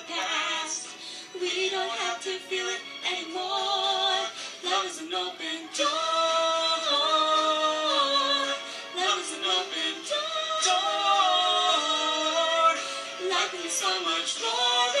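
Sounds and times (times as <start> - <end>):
pop duet from laptop speakers: 0.0 - 15.0
woman singing along: 0.0 - 15.0.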